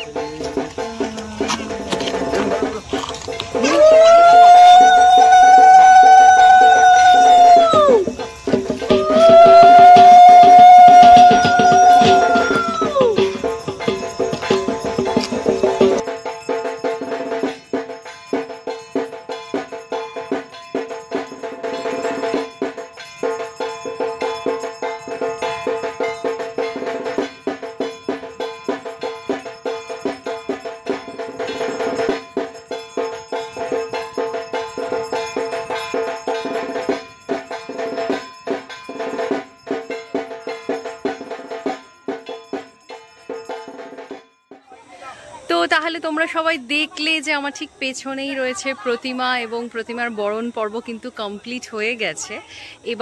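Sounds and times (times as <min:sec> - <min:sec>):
ringing metallic tone: 0:00.0 - 0:03.9, 0:05.0 - 0:53.0
fast drum beats: 0:00.0 - 0:44.7.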